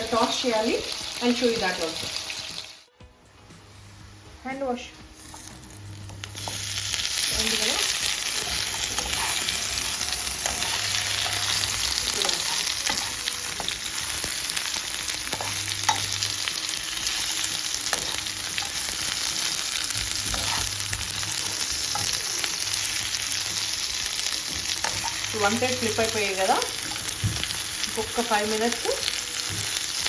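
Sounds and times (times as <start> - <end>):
chicken sizzling in oil: 0.0 - 2.9, 5.2 - 30.0.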